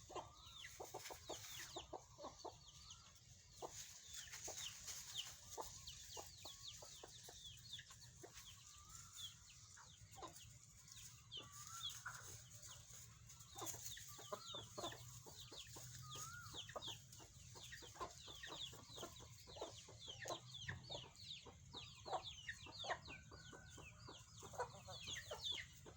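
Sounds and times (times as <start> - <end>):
chickens clucking: 0.0 - 25.9.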